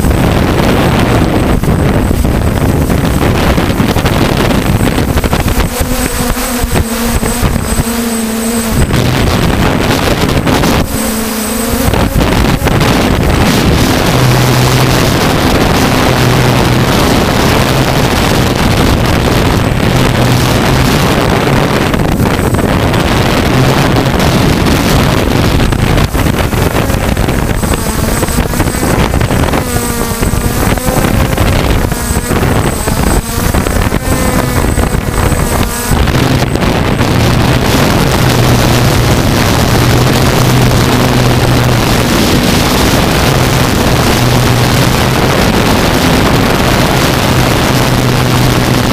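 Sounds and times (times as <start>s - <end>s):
drone motors humming: 0.0s - 48.9s
wind buffeting microphone: 0.0s - 48.9s.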